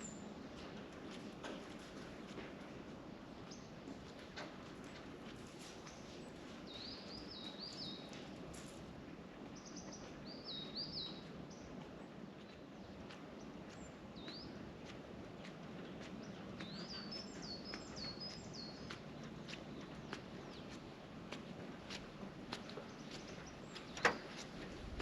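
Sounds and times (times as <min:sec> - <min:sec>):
songbird singing: 0:00.0 - 0:01.6, 0:03.4 - 0:08.8, 0:09.4 - 0:25.0
low outdoor background noise: 0:00.0 - 0:25.0.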